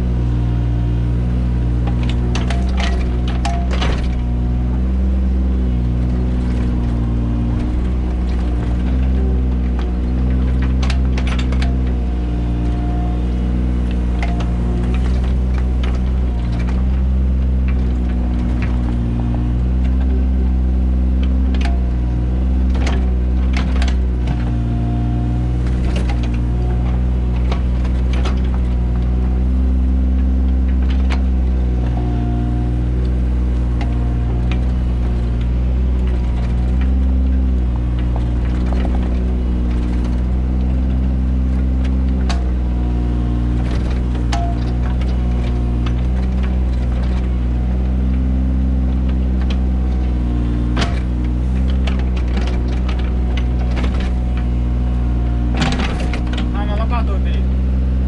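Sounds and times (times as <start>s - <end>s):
excavator engine under load: 0.0s - 58.0s
digging clanks and knocks: 1.8s - 5.0s, 5.9s - 12.8s, 13.4s - 57.3s.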